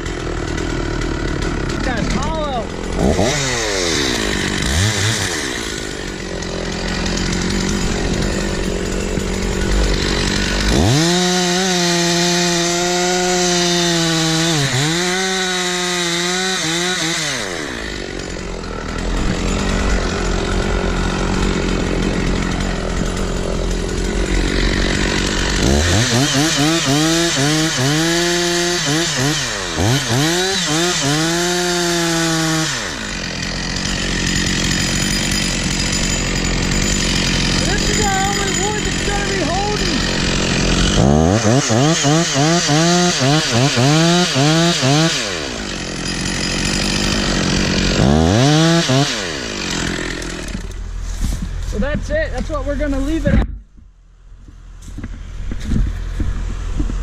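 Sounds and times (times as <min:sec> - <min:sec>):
chainsaw revving and cutting wood: 0:00.0 - 0:53.5, 0:54.6 - 0:57.0.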